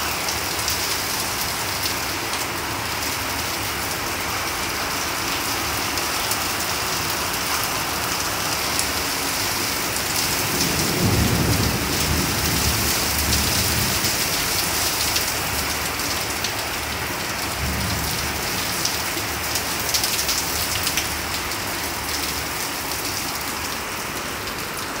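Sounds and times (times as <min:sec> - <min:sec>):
heavy rain on pavement: 0:00.0 - 0:25.0.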